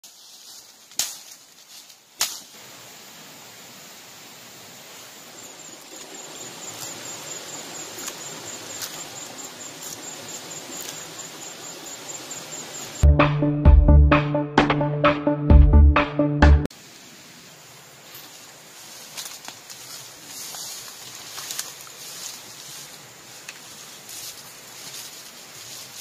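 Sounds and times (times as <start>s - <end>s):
outdoor background hiss: 0.0s - 13.6s, 16.7s - 26.0s.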